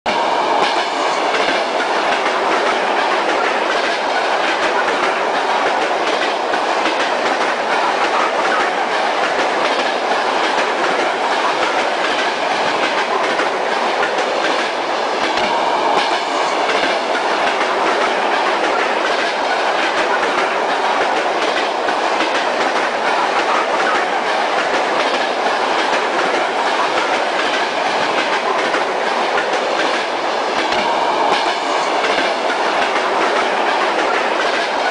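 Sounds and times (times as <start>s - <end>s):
train wheels rolling on rails: 0.1s - 34.9s.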